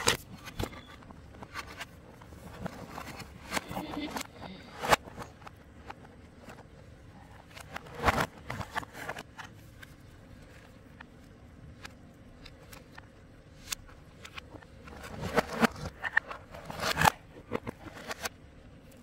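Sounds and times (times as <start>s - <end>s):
rustling of cables and packing: 0.0s - 19.0s.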